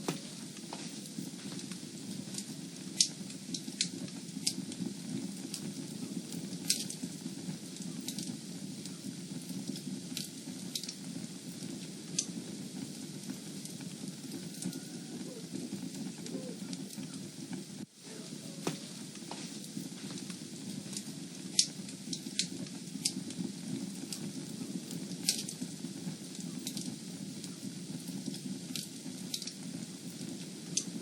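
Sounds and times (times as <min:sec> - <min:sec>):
fireplace fire crackling: 0:00.0 - 0:31.0.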